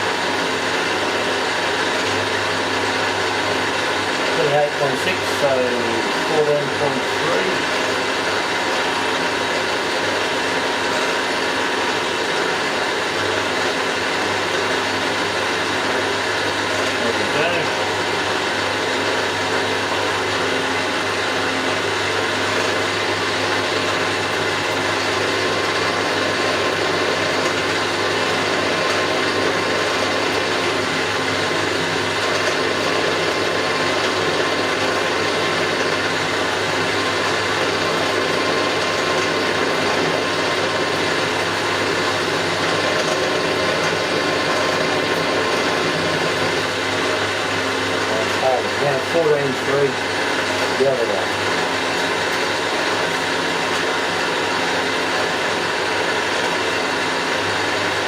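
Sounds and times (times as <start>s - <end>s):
milling machine humming: 0.0s - 58.0s.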